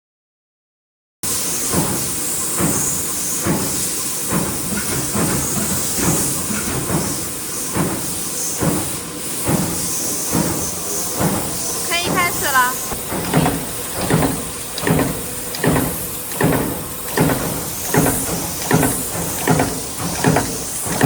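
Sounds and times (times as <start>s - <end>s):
stamping press strokes: 1.6s - 21.0s.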